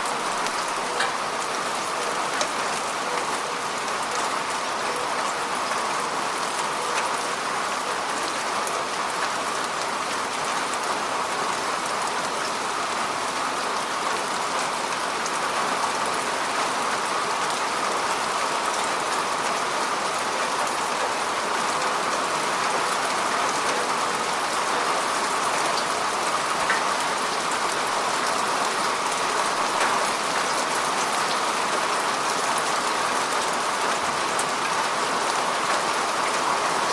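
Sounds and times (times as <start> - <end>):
rain falling on lake: 0.0 - 36.9.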